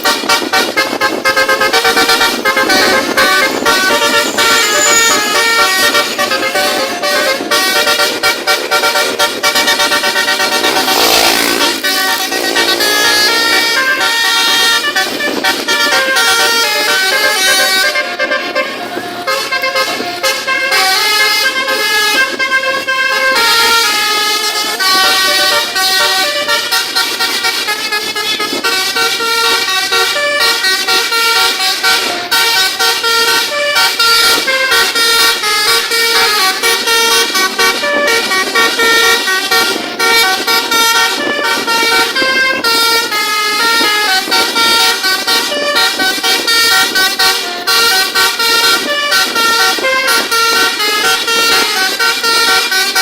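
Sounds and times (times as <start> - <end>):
multi-tone air horn melody: 0.0 - 53.0.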